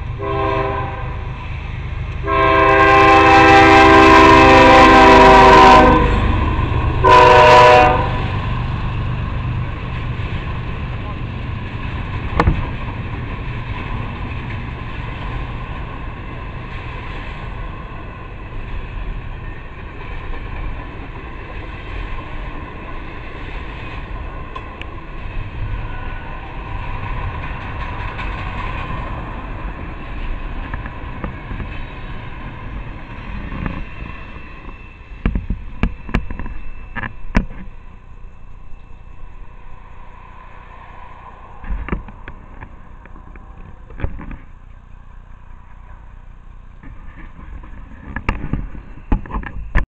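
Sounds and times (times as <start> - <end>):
freight train rolling past: 0.0 - 49.8.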